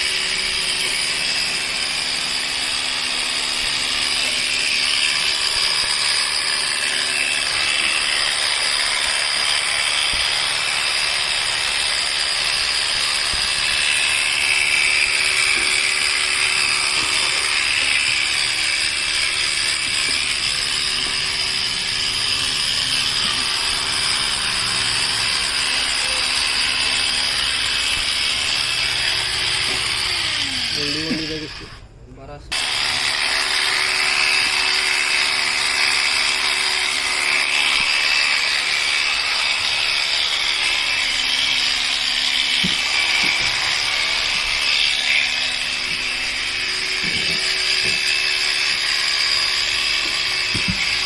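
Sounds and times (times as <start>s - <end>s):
electric clippers buzzing: 0.0s - 31.8s, 32.5s - 51.0s.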